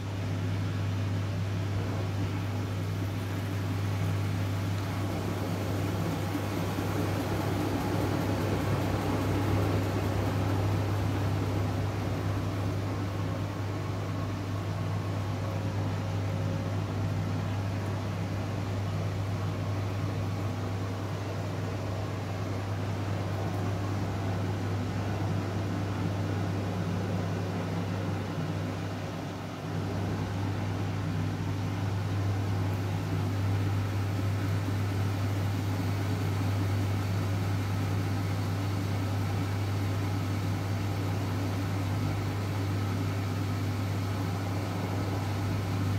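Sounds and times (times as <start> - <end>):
washing machine motor hum: 0.0 - 45.9.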